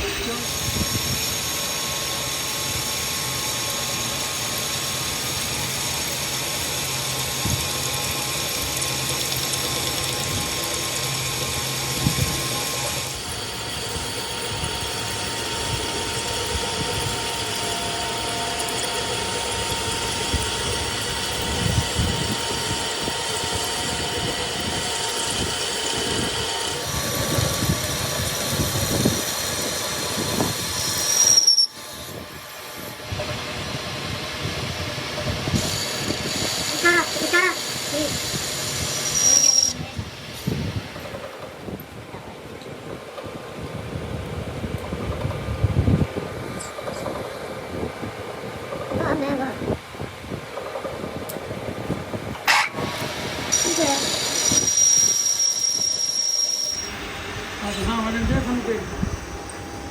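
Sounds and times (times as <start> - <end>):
power tool running with whine: 0.0 - 41.5, 52.5 - 59.9.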